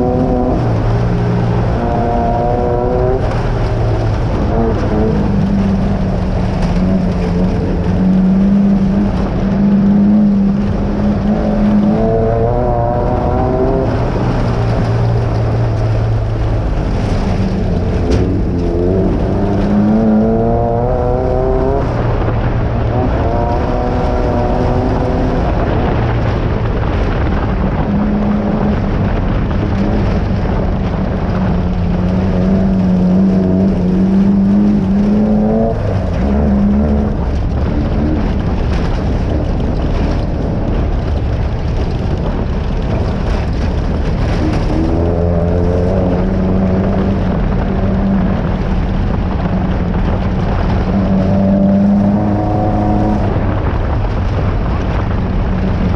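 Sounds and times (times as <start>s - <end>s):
car engine running hard: 0.0s - 55.9s.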